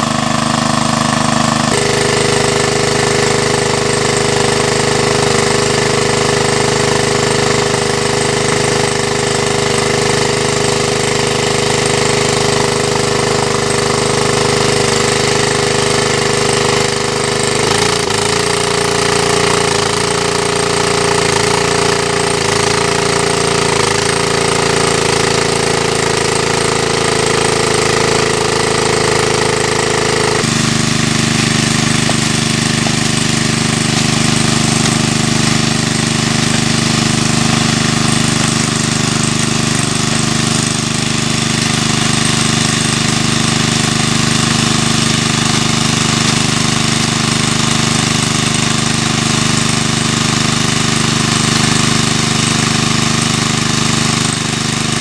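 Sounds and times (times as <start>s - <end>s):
water jet splashing: 0.0s - 55.0s
water pump engine rattling: 0.0s - 55.0s.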